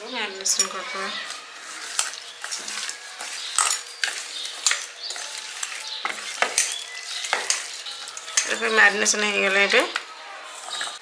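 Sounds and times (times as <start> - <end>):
wet squishing of hands mixing: 0.2 - 11.0.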